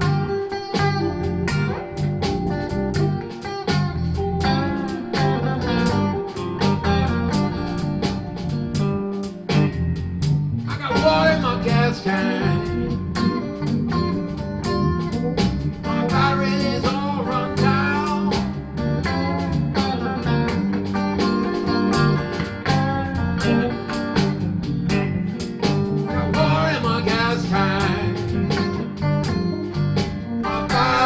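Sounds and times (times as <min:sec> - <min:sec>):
bass guitar: 0:00.0 - 0:31.0
electric guitar with bent notes: 0:00.0 - 0:31.0
steady drum beat: 0:00.0 - 0:31.0.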